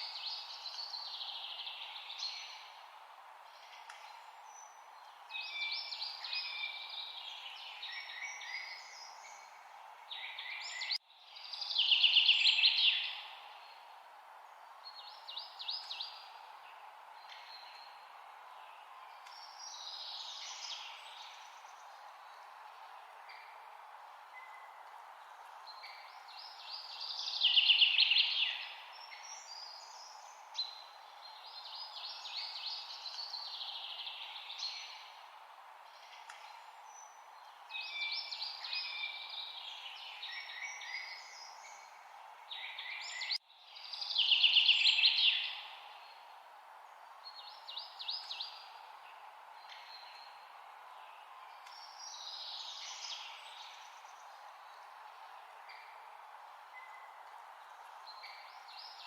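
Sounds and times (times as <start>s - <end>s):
faint background hiss: 0.0s - 59.0s.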